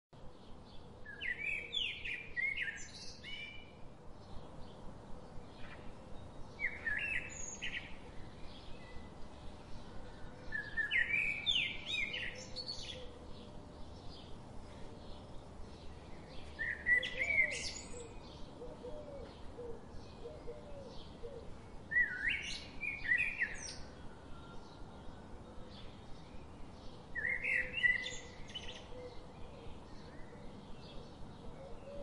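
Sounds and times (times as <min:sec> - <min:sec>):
songbirds chirping: 0:00.2 - 0:32.0.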